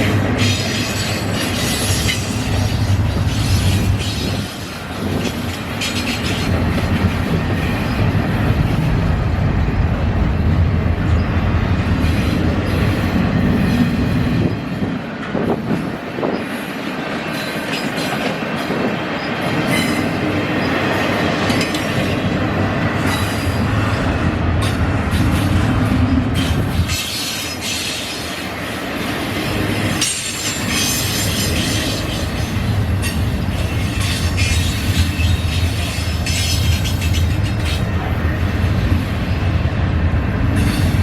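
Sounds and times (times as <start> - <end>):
train wheels on rails: 0.0 - 41.0.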